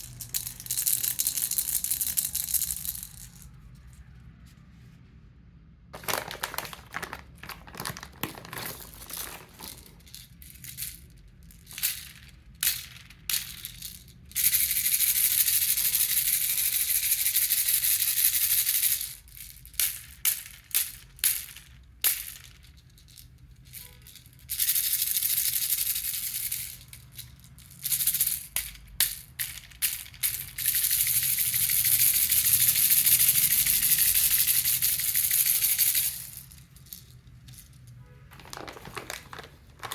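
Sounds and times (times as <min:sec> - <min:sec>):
baby rattle shaking: 0:00.0 - 0:03.5, 0:06.0 - 0:39.9.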